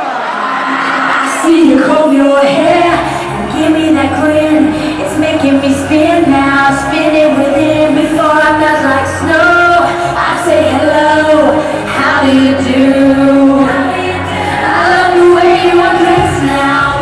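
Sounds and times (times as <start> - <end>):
woman singing: 0.8 - 17.0.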